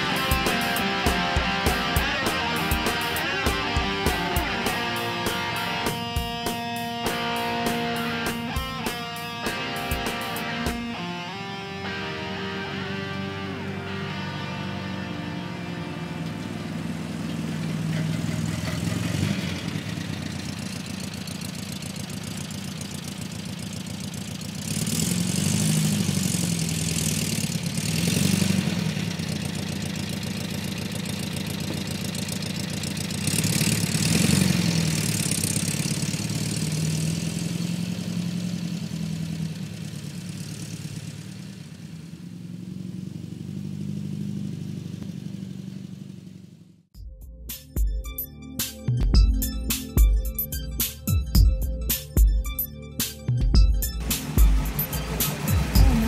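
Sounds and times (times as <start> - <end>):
car engine revving: 0.0 - 46.9, 53.8 - 56.0.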